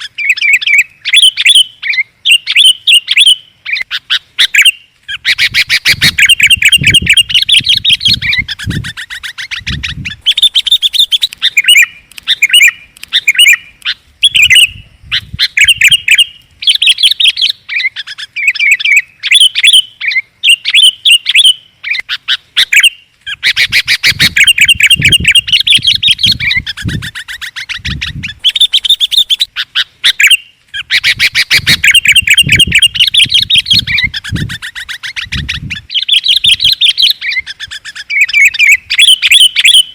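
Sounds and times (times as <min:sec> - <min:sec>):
bulbuls chattering calls: 0:00.0 - 0:39.9.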